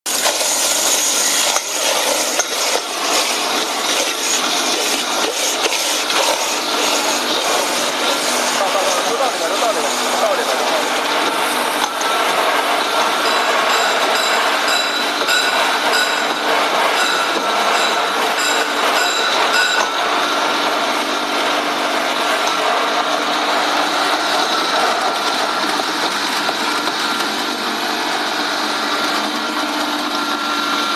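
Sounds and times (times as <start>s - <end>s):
mill grinding with steady whine: 0.1s - 30.9s.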